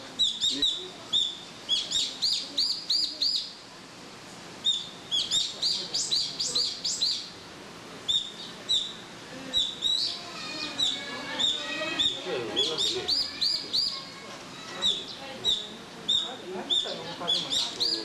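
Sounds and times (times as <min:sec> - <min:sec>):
small birds chirping: 0:00.0 - 0:03.6, 0:04.6 - 0:18.0.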